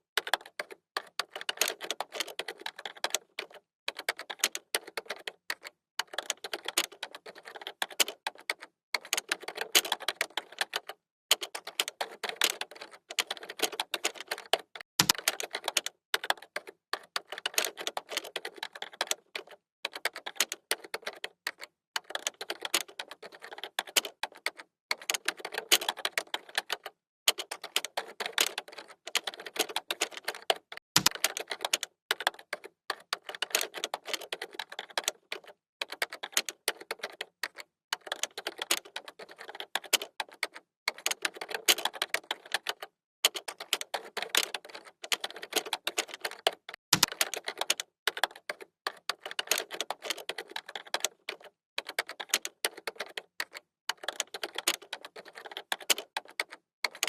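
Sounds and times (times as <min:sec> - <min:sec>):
fast typing on keyboard: 0:00.0 - 0:57.0.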